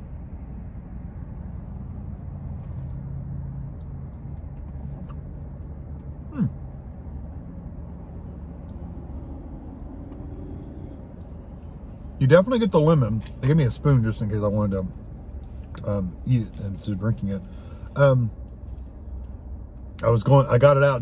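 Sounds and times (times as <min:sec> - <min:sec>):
car cabin engine hum: 0:00.0 - 0:21.0.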